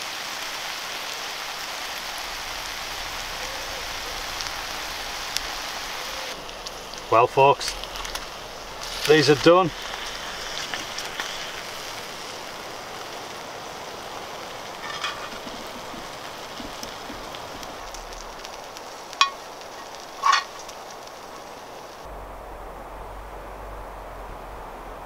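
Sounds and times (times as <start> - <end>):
vegetables sizzling in a pan: 0.0 - 22.1.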